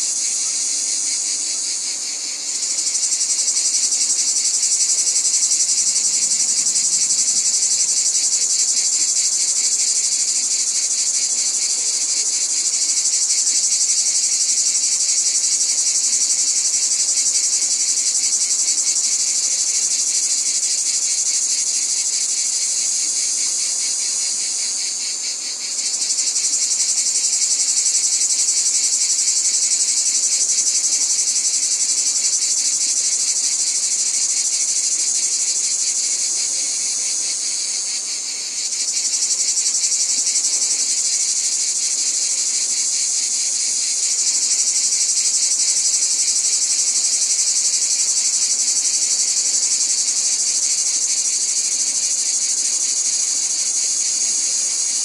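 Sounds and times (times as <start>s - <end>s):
chorus of trilling insects: 0.0s - 55.0s.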